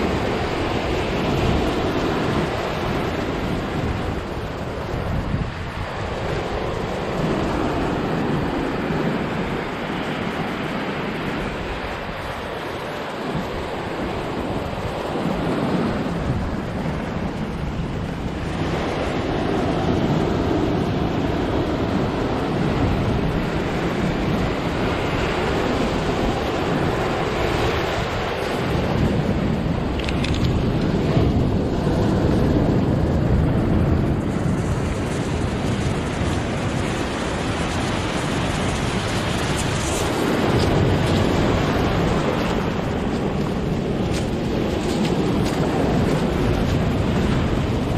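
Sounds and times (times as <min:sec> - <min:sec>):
surf breaking on rocks: 0:00.0 - 0:47.9
wind on microphone: 0:00.0 - 0:47.9.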